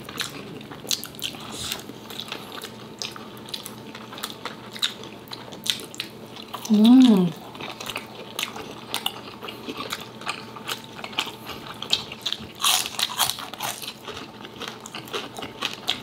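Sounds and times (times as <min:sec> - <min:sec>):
people crunching crispy food: 0:00.0 - 0:16.0.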